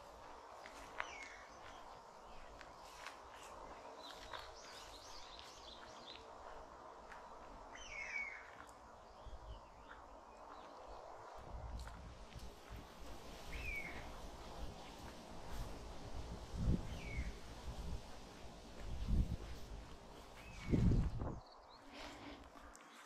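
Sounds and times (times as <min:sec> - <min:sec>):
birds calling and chirping: 0:00.5 - 0:12.0, 0:13.0 - 0:15.8, 0:16.5 - 0:23.0.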